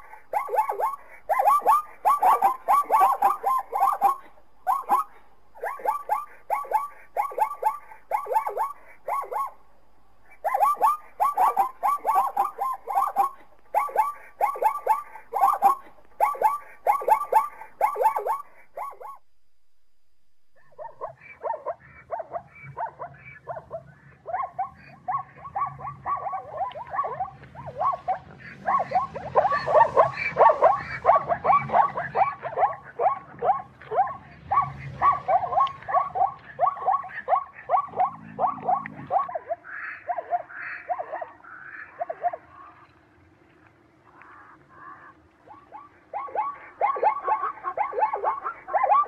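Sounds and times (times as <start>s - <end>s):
zebra barking yelps: 0.0s - 19.4s, 20.4s - 43.0s, 44.1s - 49.0s.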